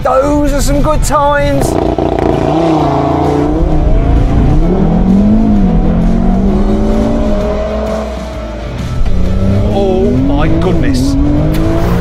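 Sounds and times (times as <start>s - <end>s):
car engine accelerating hard: 1.6s - 12.0s.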